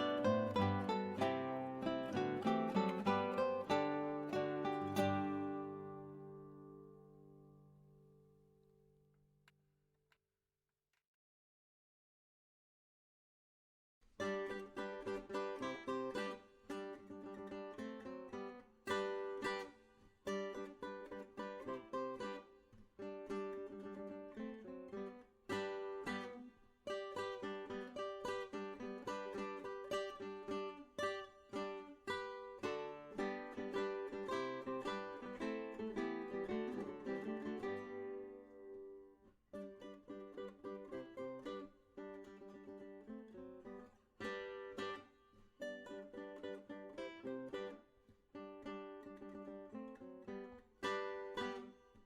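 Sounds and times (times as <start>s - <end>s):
plucked acoustic guitar: 0.0s - 8.3s, 14.2s - 52.0s.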